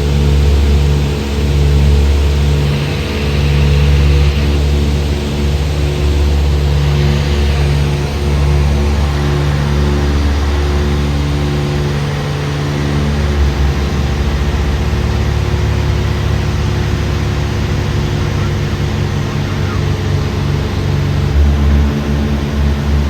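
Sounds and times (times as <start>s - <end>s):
propeller airplane engine droning: 0.0s - 23.0s.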